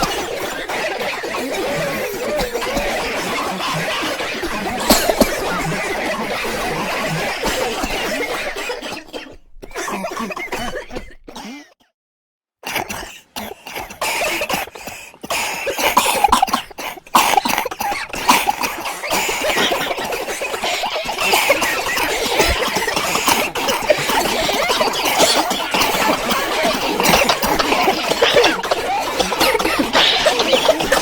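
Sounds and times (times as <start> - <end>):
crowd coughing: 0.0 - 11.7, 12.7 - 31.0.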